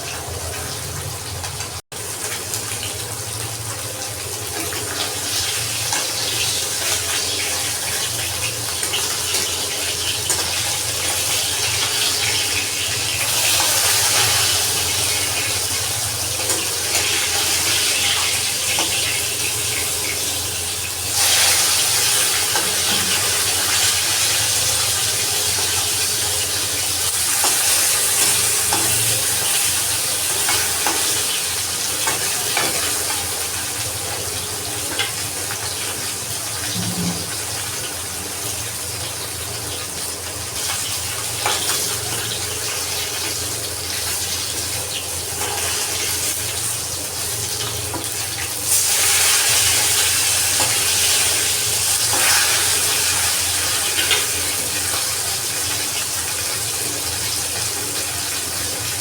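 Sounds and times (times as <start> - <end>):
hot oil sizzling in a pan: 0.0 - 59.0.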